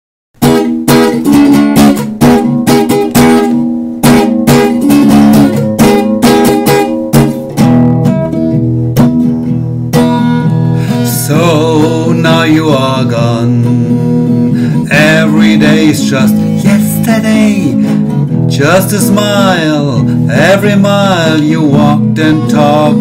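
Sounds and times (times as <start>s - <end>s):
acoustic guitar strumming chords: 0.4s - 23.0s.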